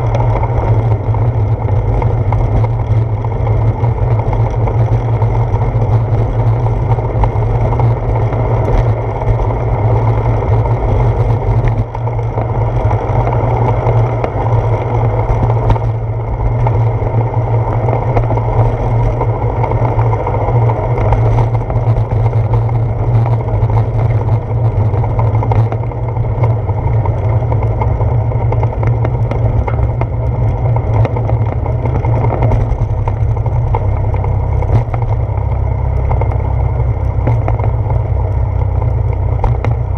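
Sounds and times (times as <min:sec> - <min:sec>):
wind and tyre rumble: 0:00.0 - 0:39.9.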